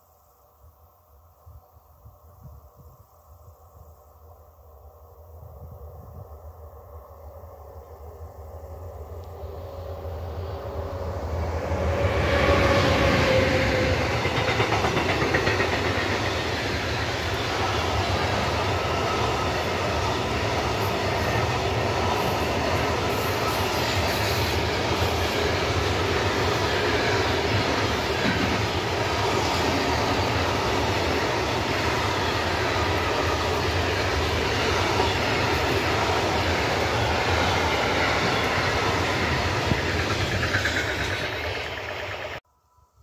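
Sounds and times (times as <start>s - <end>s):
freight train wheels rumbling: 5.6s - 42.4s.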